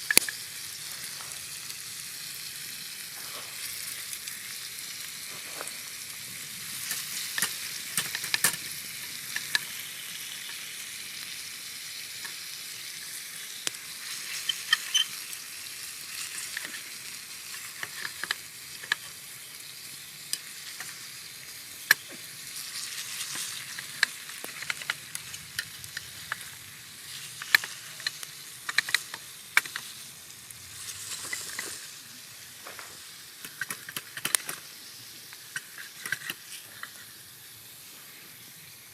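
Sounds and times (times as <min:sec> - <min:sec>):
fat popping and crackling: 0:00.0 - 0:01.8, 0:06.6 - 0:11.4, 0:12.0 - 0:37.2
steak sizzling on griddle: 0:00.0 - 0:38.9.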